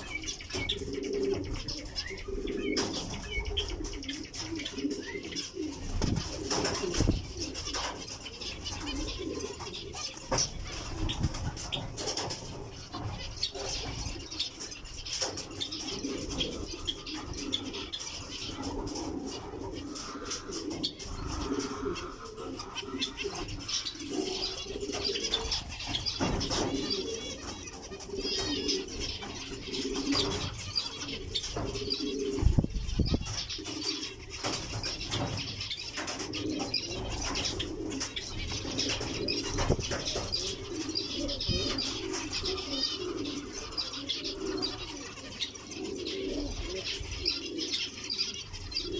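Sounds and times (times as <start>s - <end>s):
cage birds chirping and twittering: 0.0s - 48.9s.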